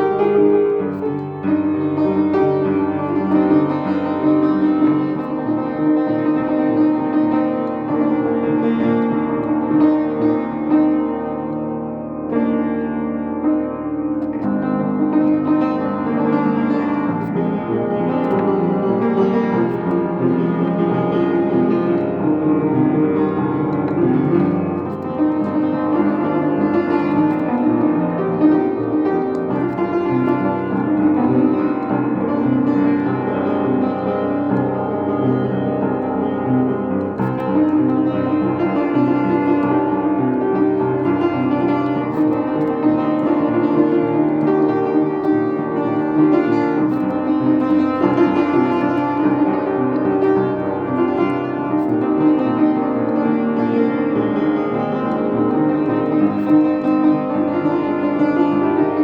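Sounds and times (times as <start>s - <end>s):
classical piano music: 0.0s - 59.0s.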